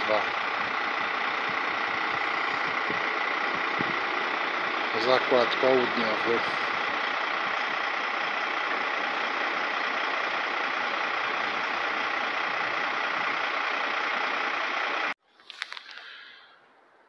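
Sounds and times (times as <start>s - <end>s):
diesel locomotive idling: 0.0s - 15.2s.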